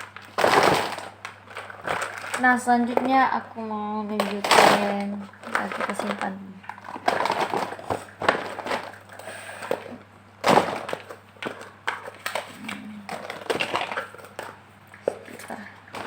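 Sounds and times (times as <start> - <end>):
packaging rustling: 0.0 - 3.2, 4.1 - 16.0.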